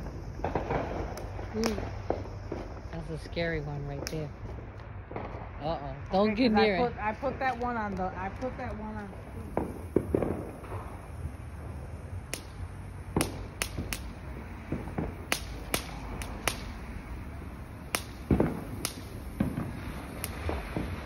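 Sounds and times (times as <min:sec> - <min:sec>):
firework crackling: 0:00.0 - 0:21.0.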